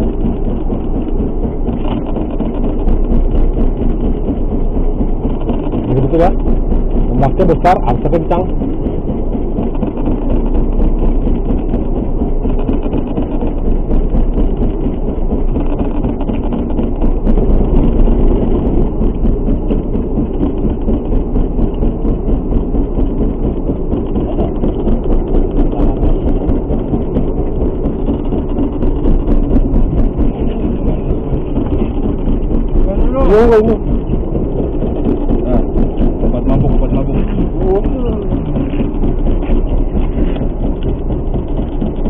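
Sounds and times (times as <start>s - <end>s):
boat engine rumbling: 0.0s - 42.0s.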